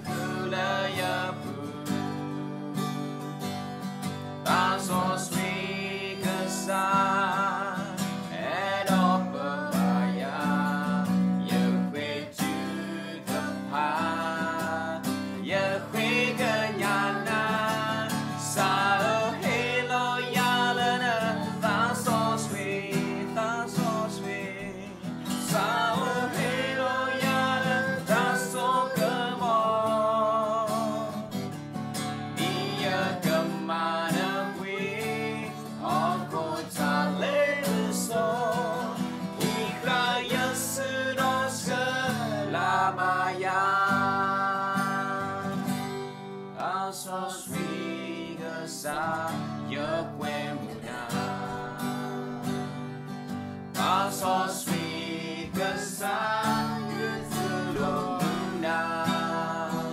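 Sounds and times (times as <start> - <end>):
man and woman singing: 0.0 - 3.2, 4.4 - 31.5, 32.2 - 46.0, 46.6 - 52.8, 53.7 - 59.9
strummed acoustic guitar: 0.0 - 59.9.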